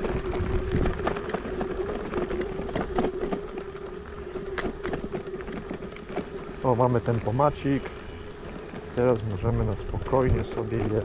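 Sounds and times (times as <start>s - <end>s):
electric scooter motor whine: 0.0s - 11.0s
scooter rattling over bumps: 0.0s - 11.0s.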